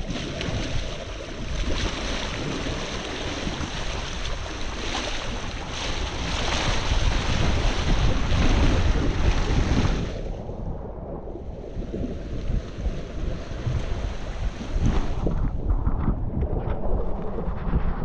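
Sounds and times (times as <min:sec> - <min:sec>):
water rushing past hull: 0:00.0 - 0:17.8
wind buffeting microphone: 0:00.0 - 0:18.0.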